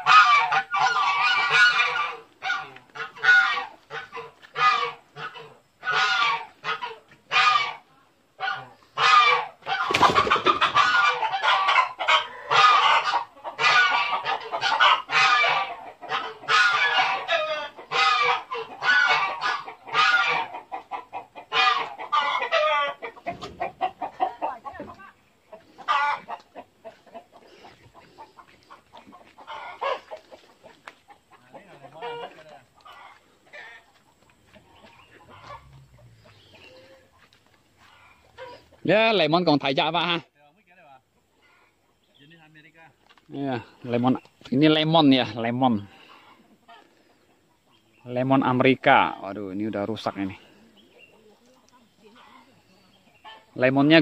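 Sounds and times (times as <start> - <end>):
geese honking: 0.0 - 40.3, 43.3 - 54.0
chickens clucking and squawking: 0.0 - 54.0.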